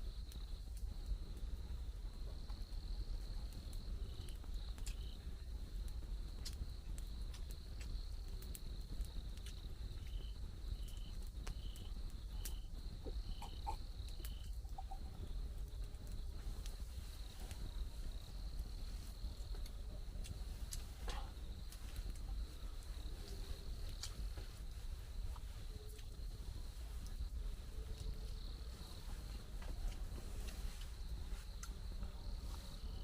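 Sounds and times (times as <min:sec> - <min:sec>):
jungle insects droning: 0:00.0 - 0:33.0.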